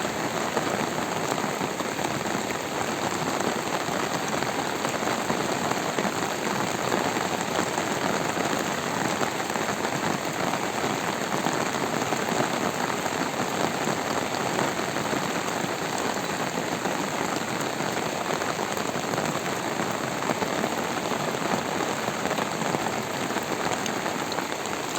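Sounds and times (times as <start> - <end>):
heavy rain pattering: 0.0 - 24.9.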